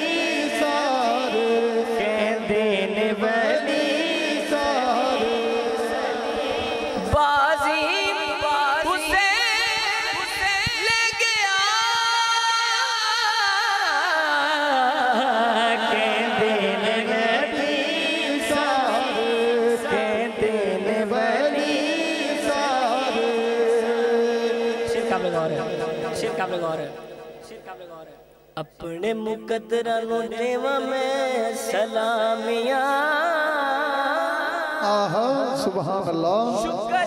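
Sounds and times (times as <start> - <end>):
man singing through a microphone: 0.0 - 37.0.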